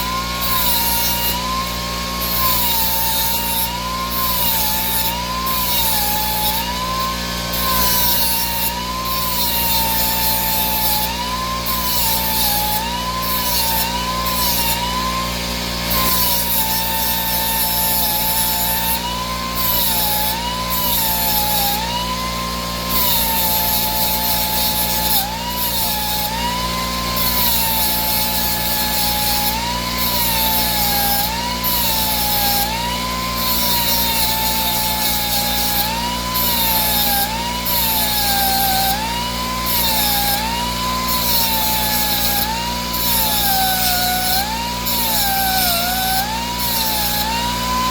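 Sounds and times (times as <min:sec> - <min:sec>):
die grinder whining: 0:00.0 - 0:47.9.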